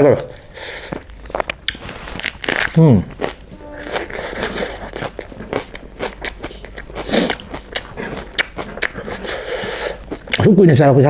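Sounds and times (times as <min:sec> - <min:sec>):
chewing and crunching: 0:00.0 - 0:10.5.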